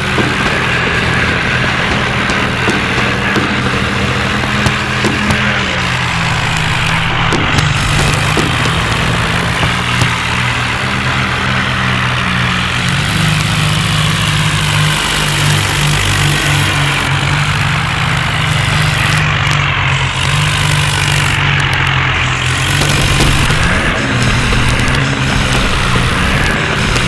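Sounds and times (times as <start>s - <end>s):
tractor diesel engine humming: 0.0s - 27.0s.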